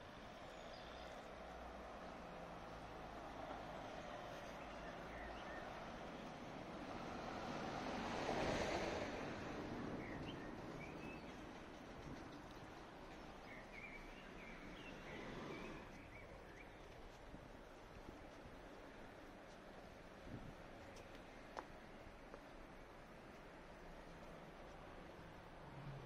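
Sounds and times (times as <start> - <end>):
city street noise: 0.0 - 26.0.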